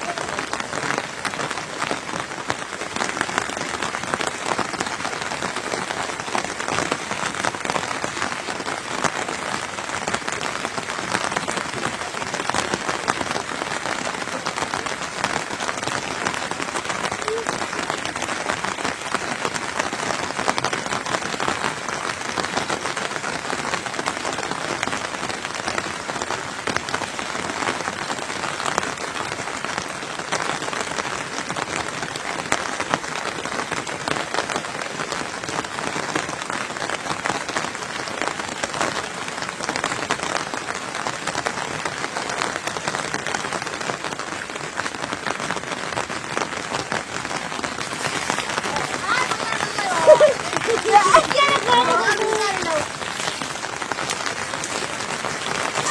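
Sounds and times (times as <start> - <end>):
steady rain patter: 0.0 - 55.9.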